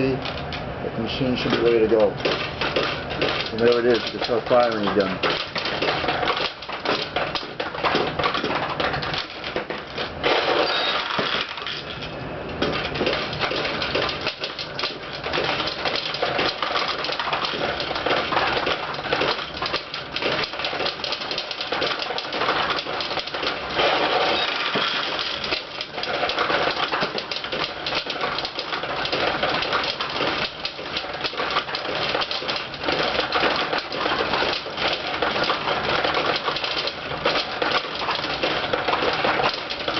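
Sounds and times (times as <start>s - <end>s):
steel balls rattling through pins: 0.0s - 39.9s.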